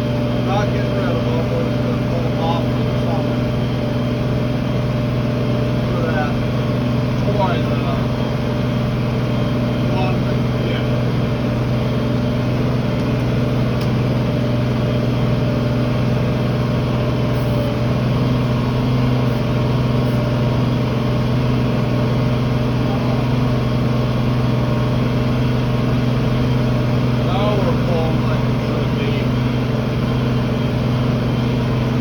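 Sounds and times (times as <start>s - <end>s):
tractor engine droning: 0.0s - 32.0s.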